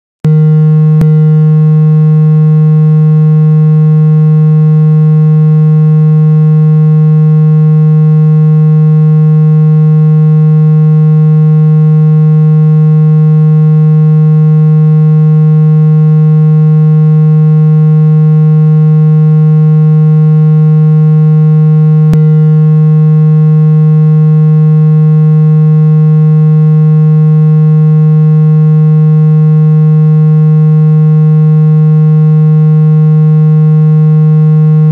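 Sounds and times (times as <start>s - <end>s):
low buzzing tone: 0.3s - 34.9s.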